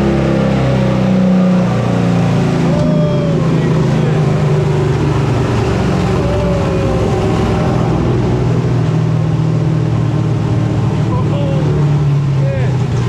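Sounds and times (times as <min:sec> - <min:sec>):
truck engine running steadily: 0:00.0 - 0:13.0.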